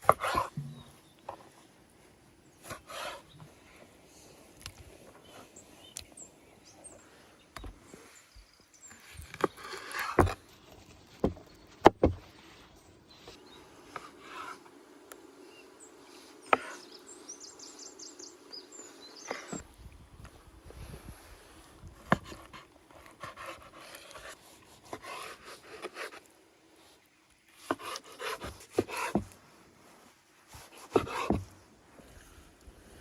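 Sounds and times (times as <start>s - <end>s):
rustle: 0.0s - 33.0s.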